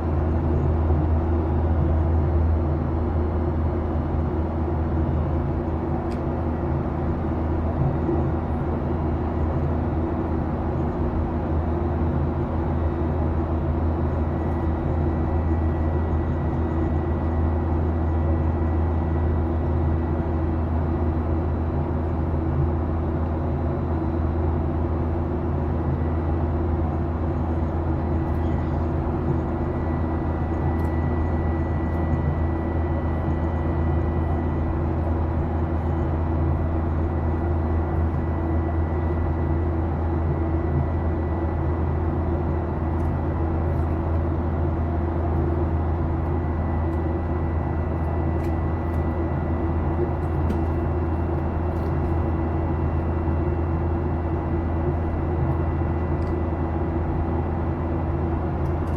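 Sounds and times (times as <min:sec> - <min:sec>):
airplane engine hum: 0:00.0 - 0:58.9.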